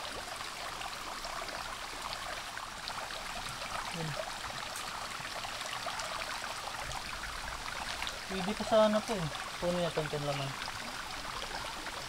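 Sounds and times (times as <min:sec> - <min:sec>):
creek water flowing: 0:00.0 - 0:12.0
water splashes and drips: 0:00.0 - 0:12.0.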